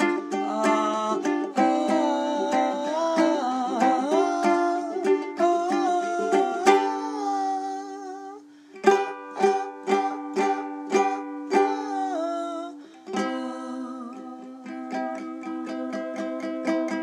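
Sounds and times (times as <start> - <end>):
ukulele playing: 0.0 - 17.0.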